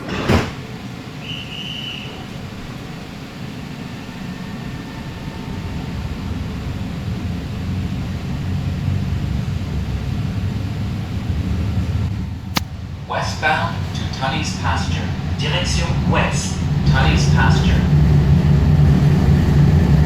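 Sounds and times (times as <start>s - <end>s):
light-rail train rumble: 0.0s - 20.0s.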